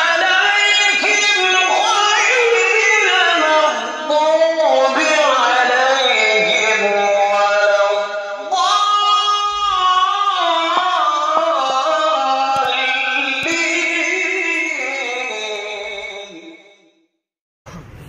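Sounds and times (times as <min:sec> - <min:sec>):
man chanting melodically: 0:00.0 - 0:16.8.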